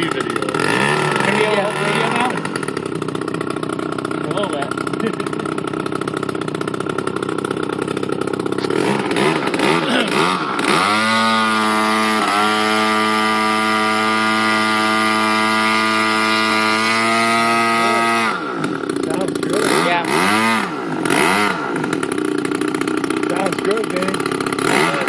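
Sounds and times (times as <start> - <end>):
model plane engine revving: 0.0 - 25.0.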